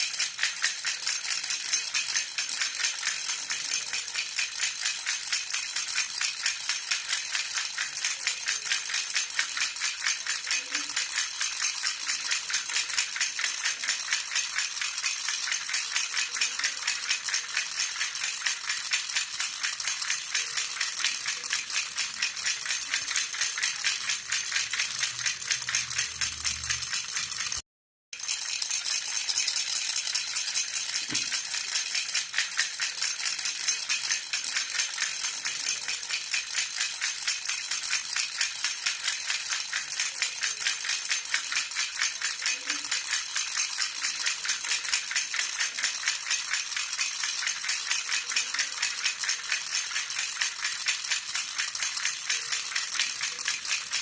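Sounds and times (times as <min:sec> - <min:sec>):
baby rattle jingling: 0:00.0 - 0:27.6, 0:28.2 - 0:54.0.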